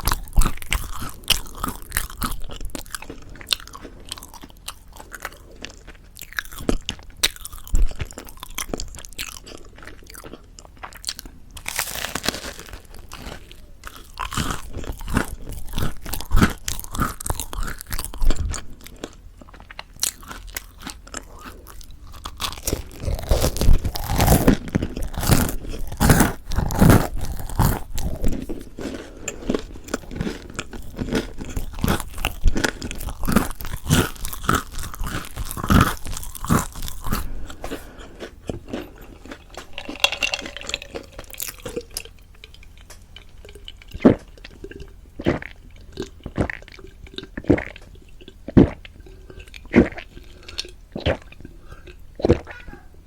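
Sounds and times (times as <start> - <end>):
crunchy bread chewing: 0.0 - 52.6.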